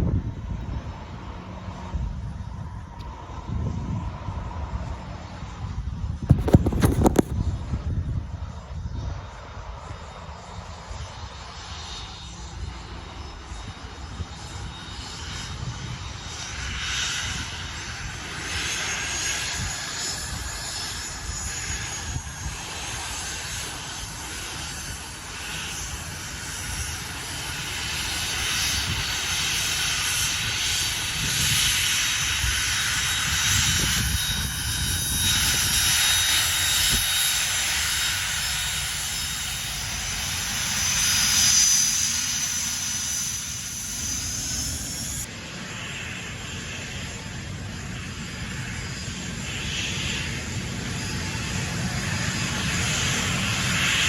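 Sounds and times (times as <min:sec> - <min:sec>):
wind on microphone: 0:00.0 - 0:45.3
airliner engines whining: 0:00.0 - 0:54.0.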